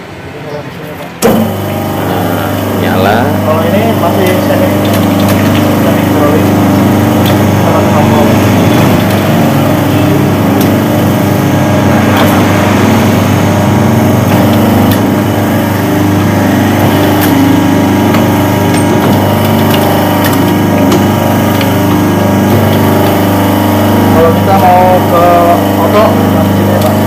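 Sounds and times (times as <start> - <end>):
machine motor hum: 0.0 - 27.0.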